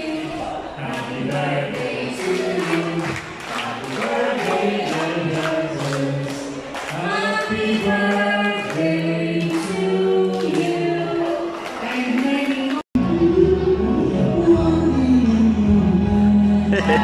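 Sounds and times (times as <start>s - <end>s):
music with sung vocals: 0.0s - 17.0s.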